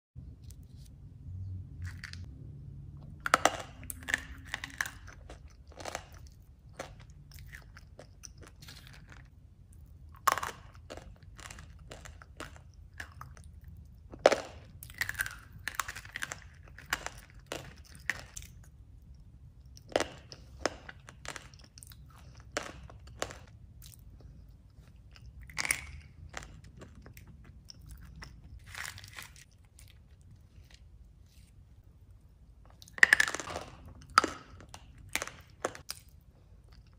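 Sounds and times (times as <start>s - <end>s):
chewing and crunching: 3.0s - 36.9s.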